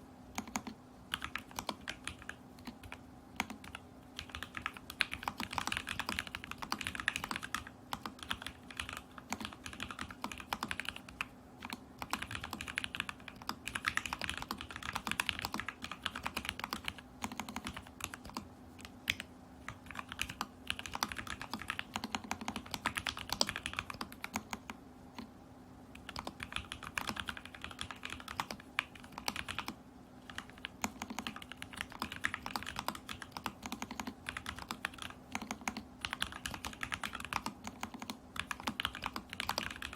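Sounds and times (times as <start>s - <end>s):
faint steady hum: 0.0s - 39.9s
mechanical keyboard typing: 0.3s - 25.3s, 25.9s - 39.9s.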